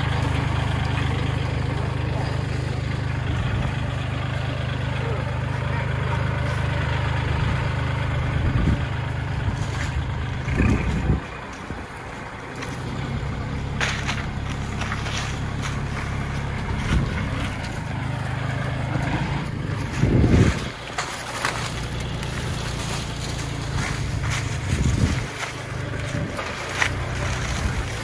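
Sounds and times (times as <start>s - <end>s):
diesel tractor engine running: 0.0s - 28.0s.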